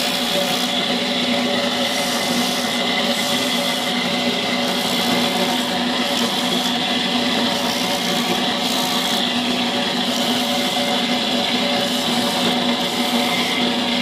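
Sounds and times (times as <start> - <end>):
coconut being grated: 0.0 - 14.0
motor hum: 0.0 - 14.0.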